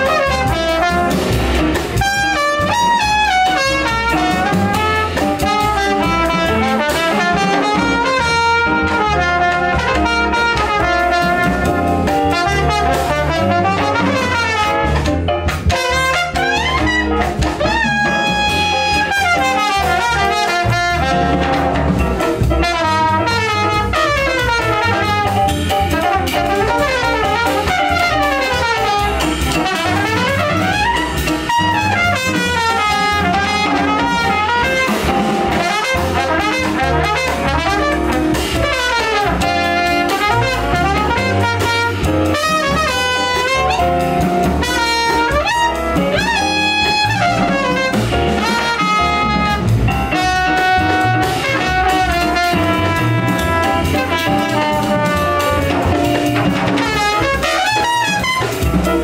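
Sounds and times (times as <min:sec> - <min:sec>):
drum kit: 0:00.0 - 0:59.0
jazz trumpet solo: 0:00.0 - 0:59.0
plucked upright bass: 0:00.0 - 0:59.0.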